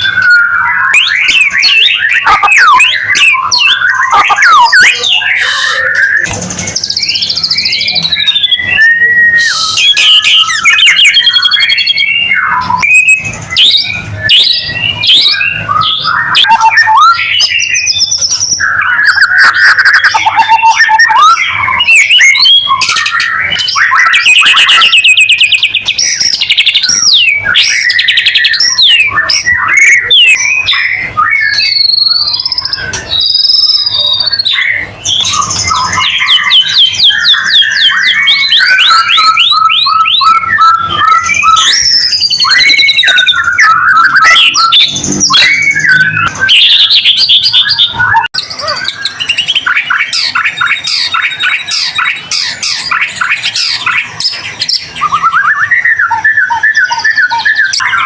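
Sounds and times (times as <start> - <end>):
songbird singing whistles and trills: 0.0 - 58.0.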